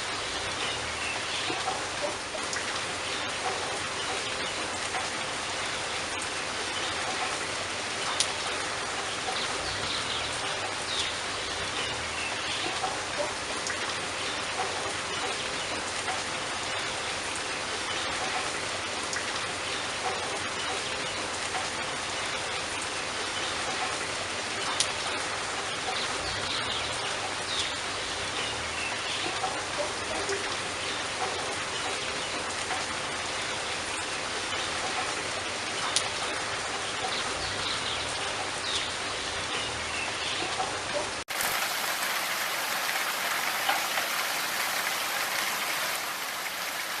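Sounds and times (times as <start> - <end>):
raindrops ticking: 0.0 - 47.0
steady rain hiss: 0.0 - 47.0.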